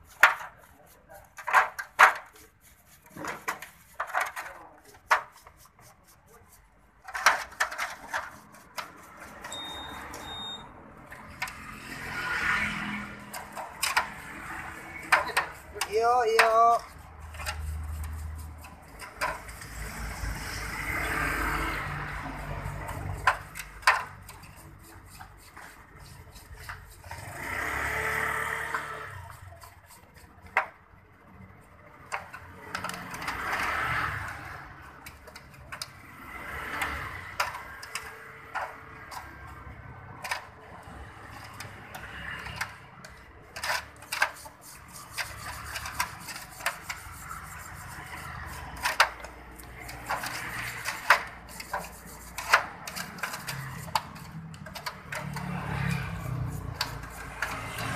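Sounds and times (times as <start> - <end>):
brush scrubbing metal part: 0.0 - 12.3, 13.2 - 21.1, 21.8 - 30.7, 40.2 - 57.9.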